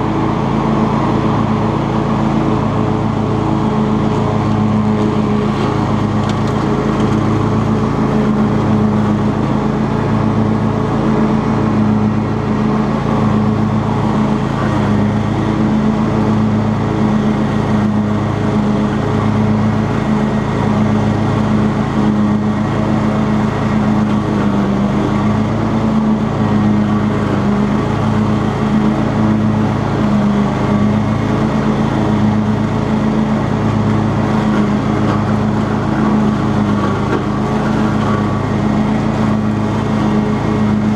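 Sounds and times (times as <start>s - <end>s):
lawn tractor engine mowing: 0.0s - 40.9s.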